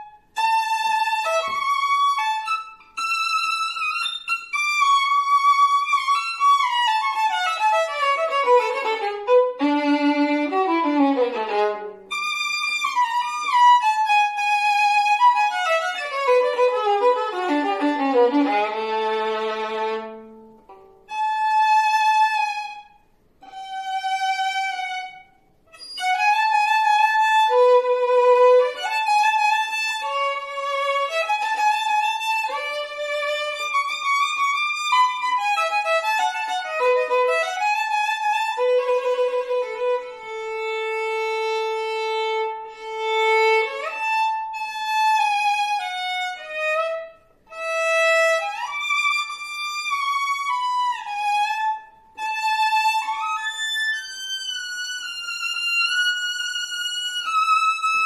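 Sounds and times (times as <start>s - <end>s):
solo violin playing: 0.0s - 58.0s.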